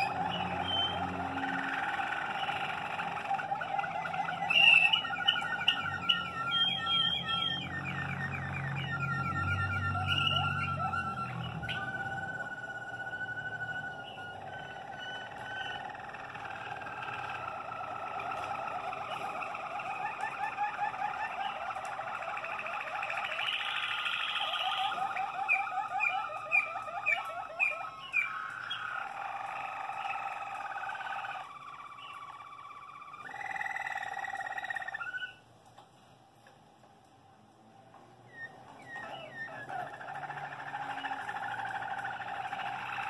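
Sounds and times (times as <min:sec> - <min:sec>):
canaries singing: 0:00.0 - 0:35.4, 0:38.1 - 0:43.0.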